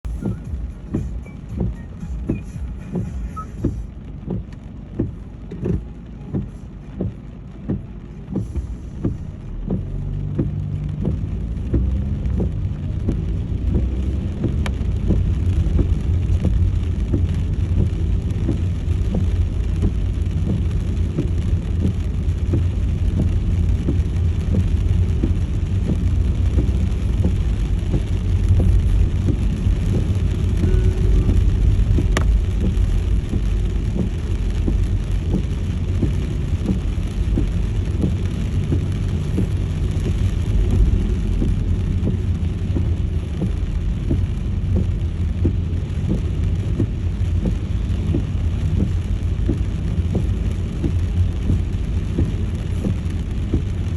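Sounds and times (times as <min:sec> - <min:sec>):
engine and tyres on wet road: 0:00.0 - 0:53.9
rain on car: 0:00.0 - 0:53.9.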